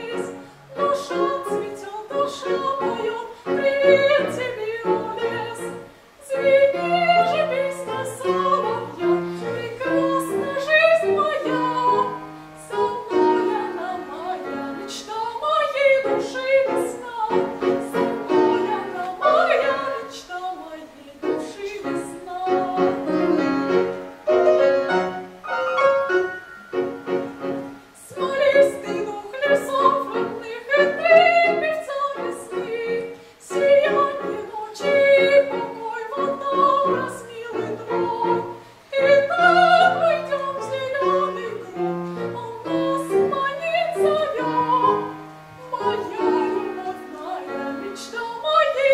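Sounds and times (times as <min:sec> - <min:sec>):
woman singing operatically: 0:00.0 - 0:24.0, 0:28.0 - 0:48.9
piano accompaniment: 0:00.0 - 0:48.9.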